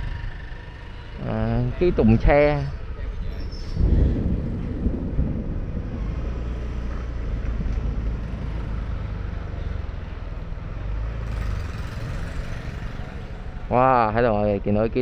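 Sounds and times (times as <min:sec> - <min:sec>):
low road rumble: 0:00.0 - 0:15.0
motorbike engines running: 0:00.0 - 0:15.0.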